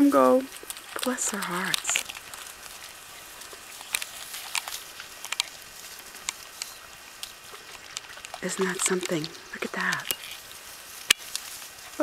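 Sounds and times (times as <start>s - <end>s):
faint outdoor hiss: 0.0s - 12.0s
paws pattering through wet grass: 0.0s - 12.0s.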